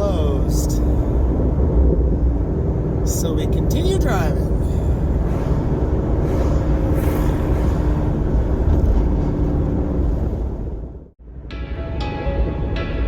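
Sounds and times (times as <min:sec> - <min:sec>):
car engine: 0:00.0 - 0:11.2
road rumble: 0:00.0 - 0:11.5.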